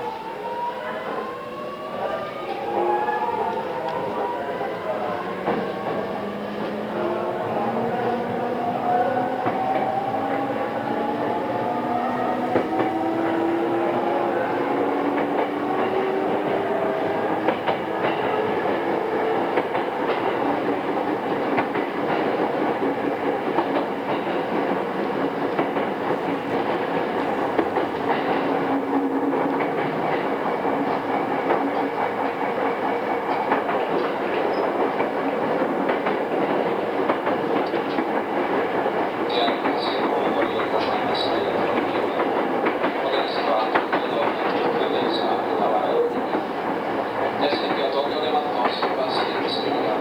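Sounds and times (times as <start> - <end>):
clickety-clack over rail joints: 2.4 - 50.0
wheel-on-rail noise: 5.4 - 50.0.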